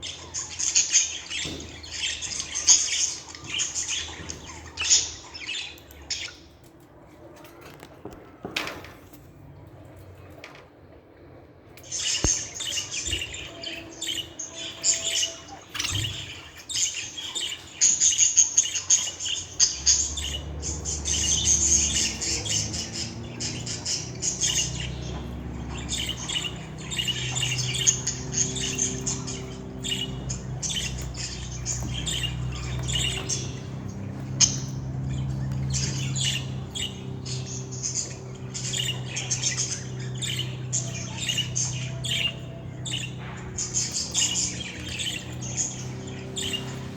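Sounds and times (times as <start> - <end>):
budgerigars chirping and warbling: 0.0 - 6.8, 11.8 - 46.9.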